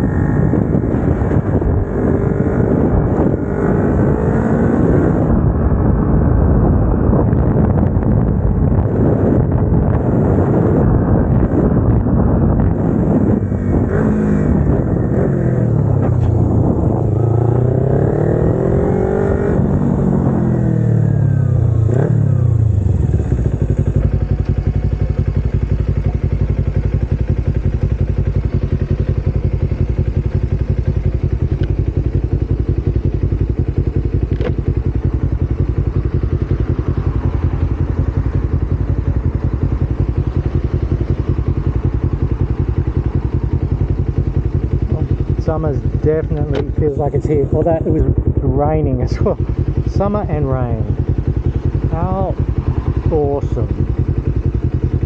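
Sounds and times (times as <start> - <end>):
motorcycle engine: 0.0 - 55.0
wind on microphone: 0.0 - 55.0.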